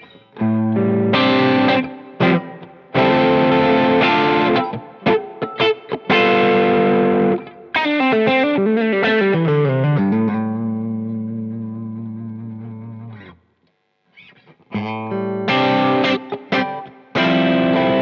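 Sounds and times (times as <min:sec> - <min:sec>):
distorted electric guitar: 0:00.0 - 0:13.4, 0:14.1 - 0:18.0.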